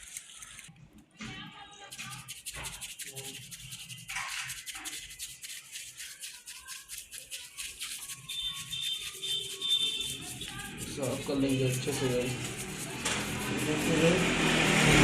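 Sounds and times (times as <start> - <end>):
chain being scrubbed: 1.9 - 15.0.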